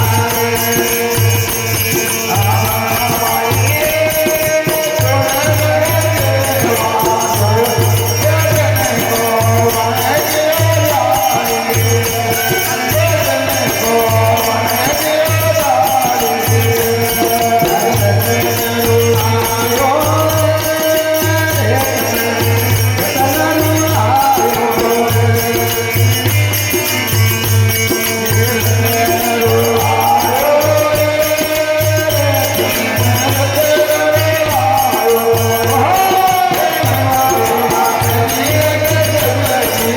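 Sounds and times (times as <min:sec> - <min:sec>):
folk devotional melody: 0:00.0 - 0:39.9
jingling percussion: 0:00.0 - 0:39.9.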